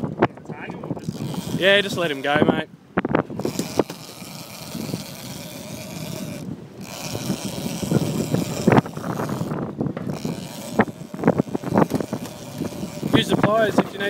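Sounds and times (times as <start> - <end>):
boat noise: 0.0 - 14.0
sea rushing: 0.0 - 14.0
wind buffeting microphone: 0.0 - 14.0.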